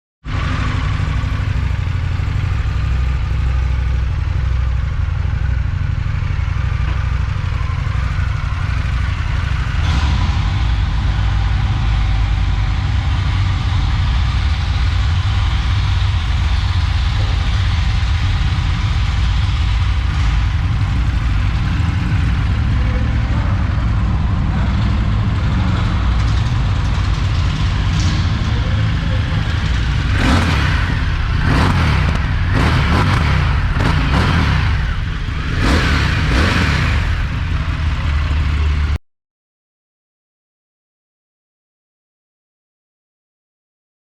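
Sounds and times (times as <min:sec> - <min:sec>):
motorcycle engine idling: 0:00.3 - 0:39.0.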